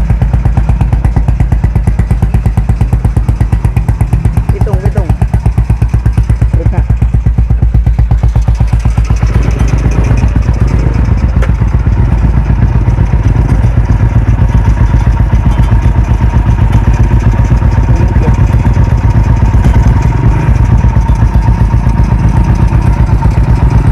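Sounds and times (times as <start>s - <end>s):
motorcycle engine running: 0.0s - 23.9s
sharp engine knock: 0.0s - 23.9s.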